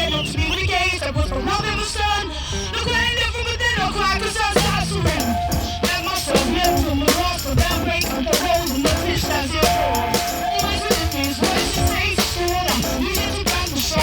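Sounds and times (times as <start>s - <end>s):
hip-hop music with vocal: 0.0s - 14.0s.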